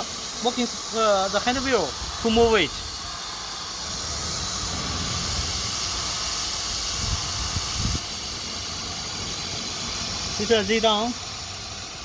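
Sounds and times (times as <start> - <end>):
router hissing: 0.0 - 12.0.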